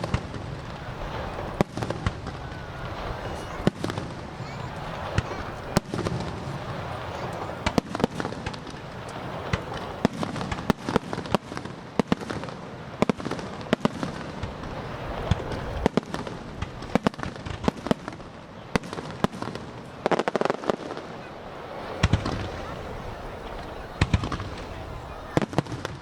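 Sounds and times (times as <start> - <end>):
background rush: 0.0 - 11.1, 12.5 - 20.0, 20.6 - 25.4
fireworks bangs: 0.0 - 26.0.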